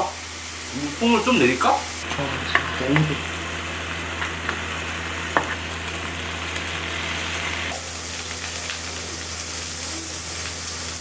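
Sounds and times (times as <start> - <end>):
pork sizzling on a grill: 0.0 - 11.0.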